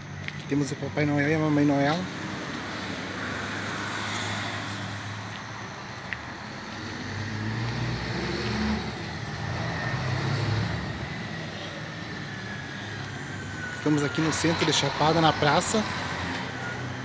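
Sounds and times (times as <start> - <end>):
car passing by: 2.0 - 5.8, 6.4 - 17.0.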